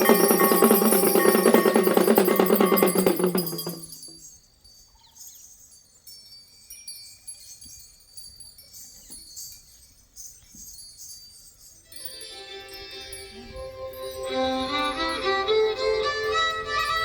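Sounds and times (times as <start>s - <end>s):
small bells jingling: 0.0s - 17.0s.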